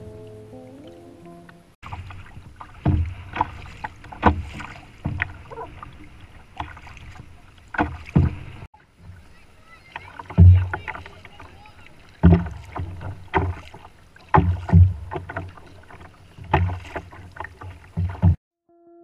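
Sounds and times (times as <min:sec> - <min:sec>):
steady wash of water: 0:01.8 - 0:18.4
water slapping canoe hull: 0:01.8 - 0:18.4.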